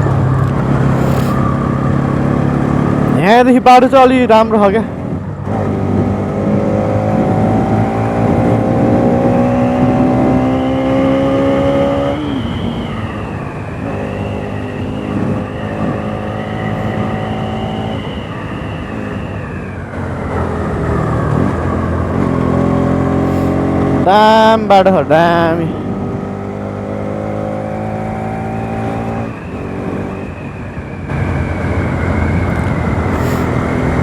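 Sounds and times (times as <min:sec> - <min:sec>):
motorcycle engine accelerating: 0:00.0 - 0:03.7, 0:04.3 - 0:34.0.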